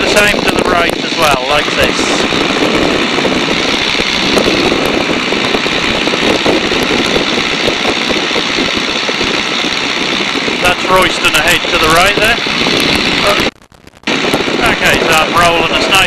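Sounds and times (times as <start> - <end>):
biplane engine and propeller drone: 0.0 - 16.0
wind rushing: 0.0 - 16.0.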